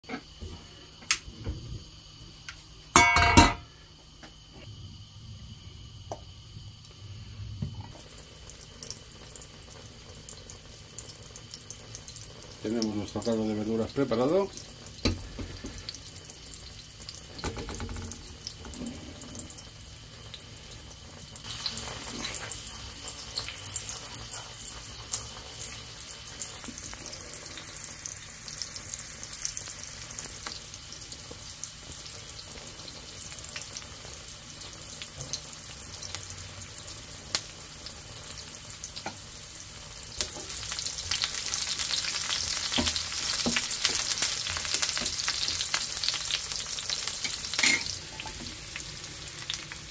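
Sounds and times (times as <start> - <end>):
onion sizzling in hot oil: 0.0 - 49.9.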